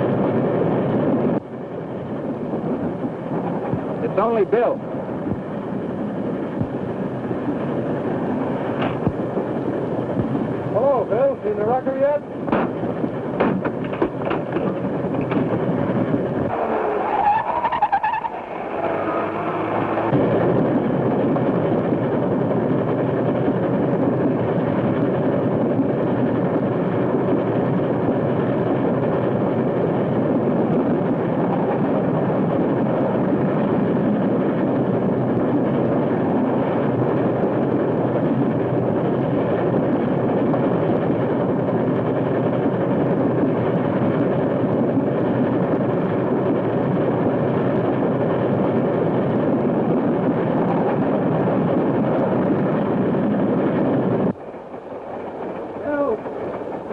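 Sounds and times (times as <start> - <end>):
vehicle rumbling at speed: 0.0 - 56.9.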